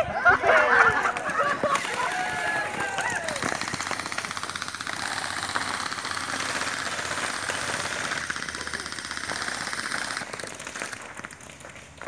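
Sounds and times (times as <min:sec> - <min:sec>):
gel ball blasters firing: 0:01.2 - 0:11.6.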